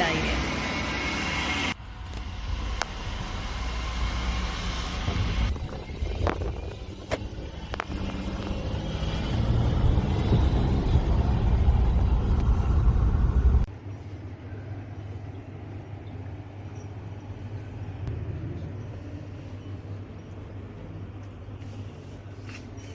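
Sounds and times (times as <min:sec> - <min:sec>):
car and road noise: 0:00.0 - 0:22.9.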